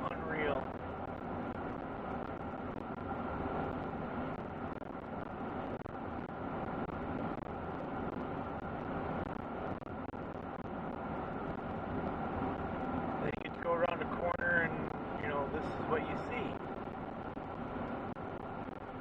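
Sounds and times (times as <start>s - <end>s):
truck road and engine noise: 0.0s - 19.0s.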